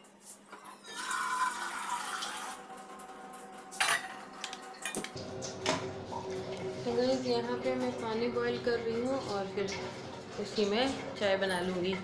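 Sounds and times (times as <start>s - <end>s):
water running into saucepan: 0.6s - 12.0s.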